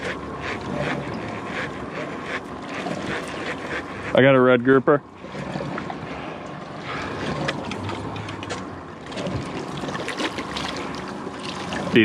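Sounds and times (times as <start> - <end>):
water around boat: 0.0 - 12.0
wind: 0.0 - 12.0.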